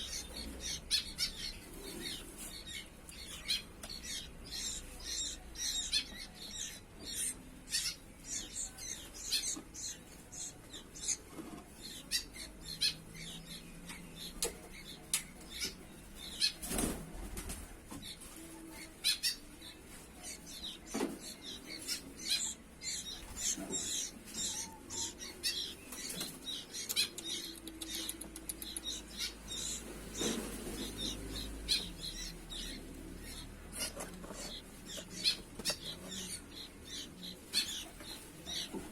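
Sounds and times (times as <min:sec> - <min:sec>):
bird chicks chirping: 0:00.0 - 0:38.9.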